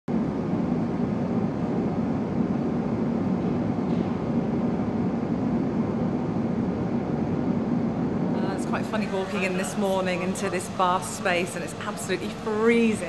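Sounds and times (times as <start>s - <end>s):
steady low rumble: 0.1s - 13.0s.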